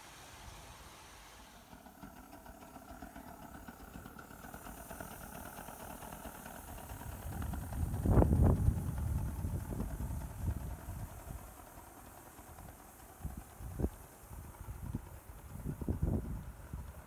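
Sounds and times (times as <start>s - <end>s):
model steam locomotive running: 0.0s - 17.0s.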